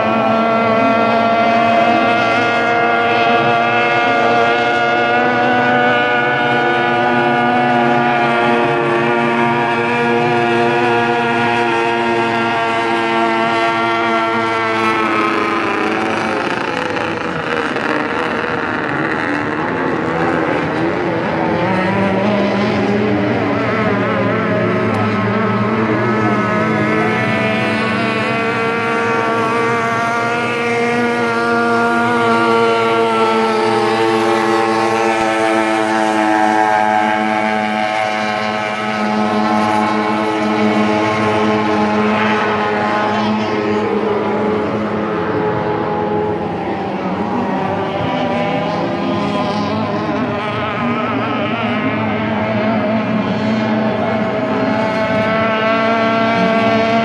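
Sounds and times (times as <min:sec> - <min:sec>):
racing boat engines: 0:00.0 - 0:57.0.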